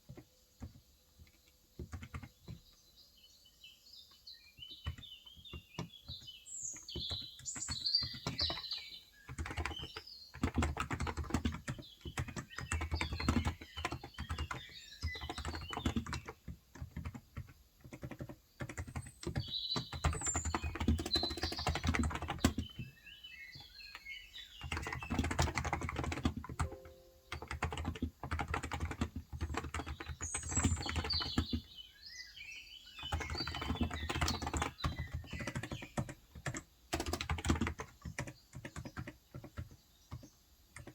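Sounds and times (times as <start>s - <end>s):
keyboard typing: 0.1s - 2.6s, 4.8s - 22.9s, 23.9s - 31.7s, 33.0s - 40.9s
birds chirping: 0.1s - 17.2s, 17.9s - 40.9s.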